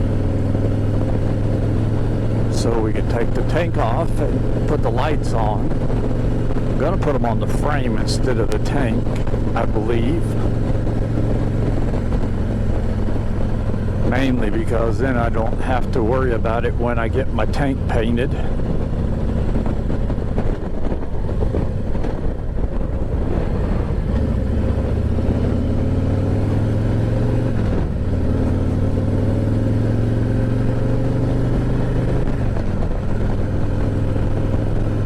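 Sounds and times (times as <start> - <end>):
wind rush: 0.0 - 28.7
motorcycle engine running: 0.0 - 35.0.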